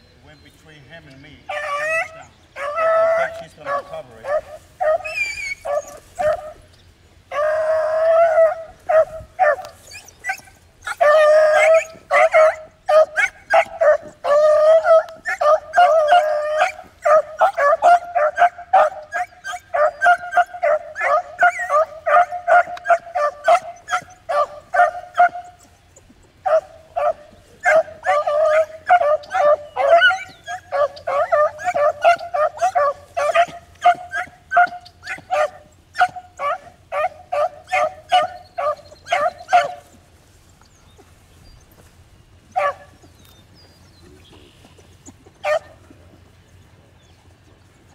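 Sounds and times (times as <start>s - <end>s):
dogs baying: 1.1s - 47.9s.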